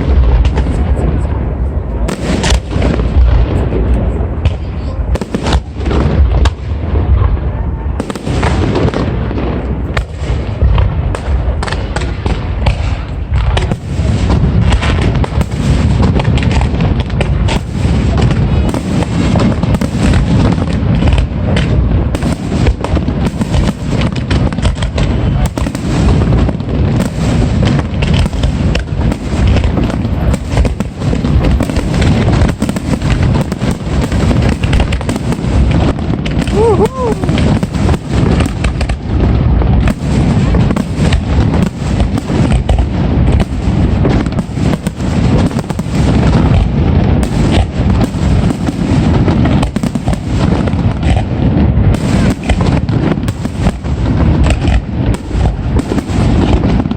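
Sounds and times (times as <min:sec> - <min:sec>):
fireworks booming and crackling: 0:00.0 - 0:56.9.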